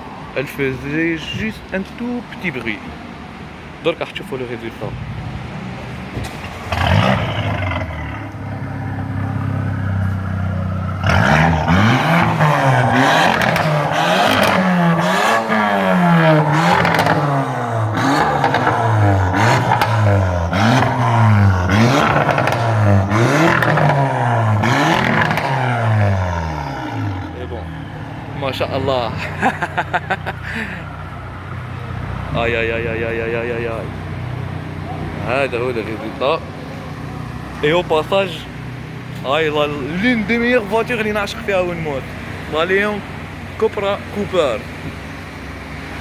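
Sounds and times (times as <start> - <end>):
car engine revving and idling: 4.6 - 46.0.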